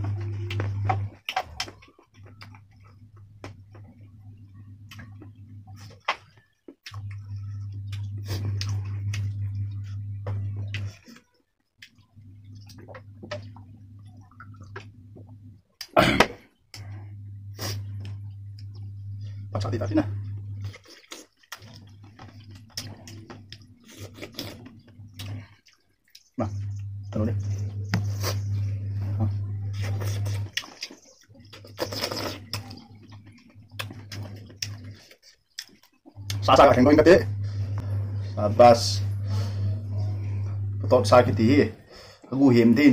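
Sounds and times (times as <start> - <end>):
low hum: 0.0 - 35.1, 36.1 - 42.9
person chewing food wetly: 0.0 - 38.6.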